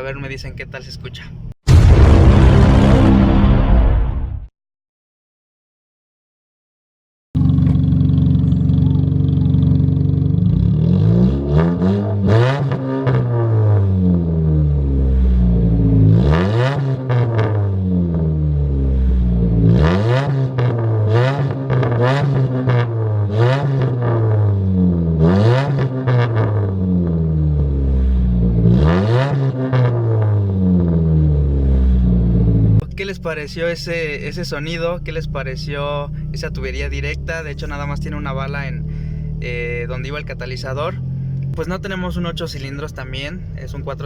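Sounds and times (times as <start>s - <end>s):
car engine revving: 7.4s - 44.0s.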